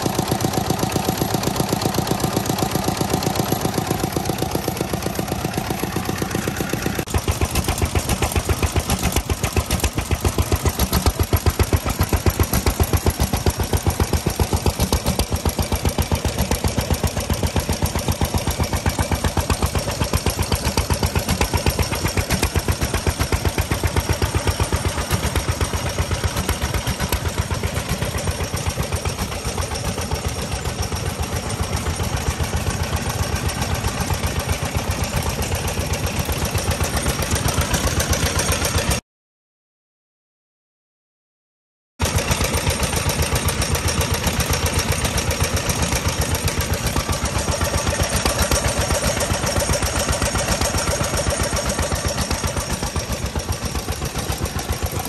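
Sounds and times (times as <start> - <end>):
single-cylinder stationary engines running: 0.0 - 39.0, 42.0 - 55.0.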